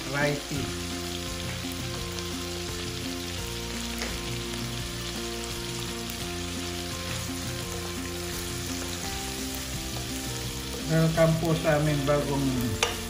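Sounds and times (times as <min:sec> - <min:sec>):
food sizzling in oil: 0:00.0 - 0:13.0
light background music: 0:00.0 - 0:13.0.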